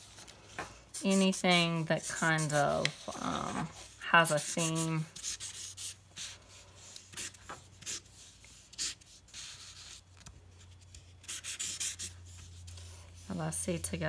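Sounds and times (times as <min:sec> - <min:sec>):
marker scratching on paper: 0:00.8 - 0:10.0, 0:10.6 - 0:13.4.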